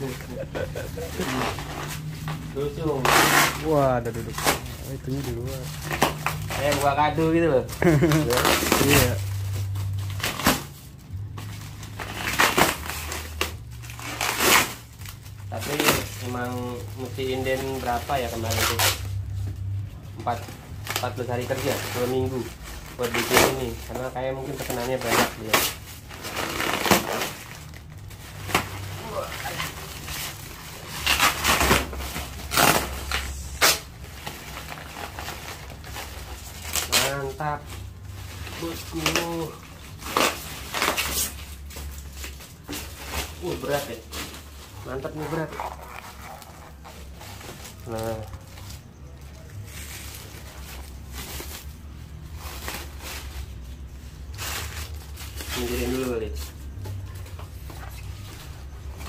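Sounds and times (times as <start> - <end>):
low steady hum: 0.0 - 59.0
packing rustling and tearing: 0.0 - 59.0.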